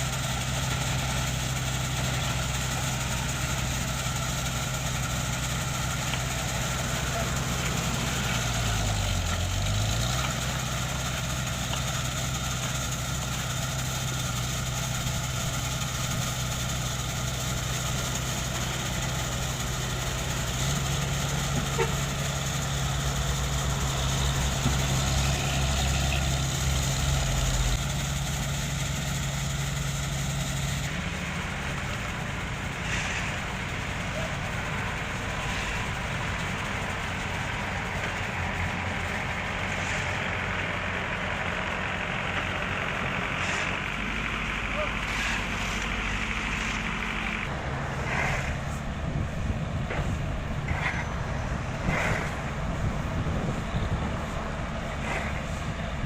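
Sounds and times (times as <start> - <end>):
diesel construction machinery running: 0.0 - 56.0.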